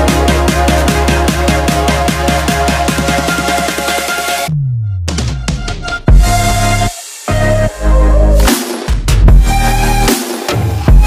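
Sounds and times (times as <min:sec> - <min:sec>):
electronic dance music: 0:00.0 - 0:04.5, 0:05.3 - 0:11.0.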